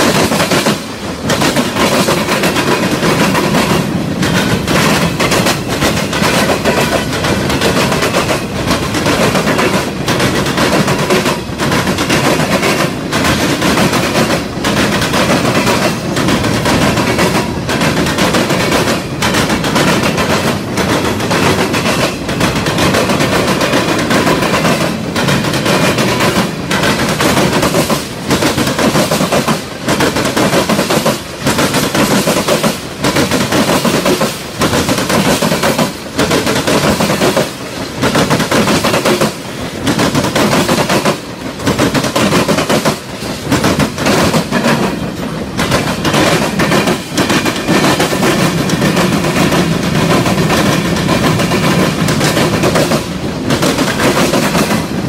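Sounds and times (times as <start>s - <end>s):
freight train wheels clattering: 0.0s - 55.0s.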